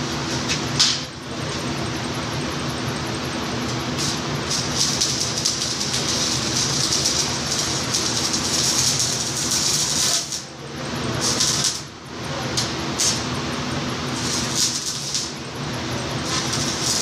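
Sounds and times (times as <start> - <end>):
steady low hum: 0.0 - 17.0
welding arc sizzling: 0.0 - 17.0.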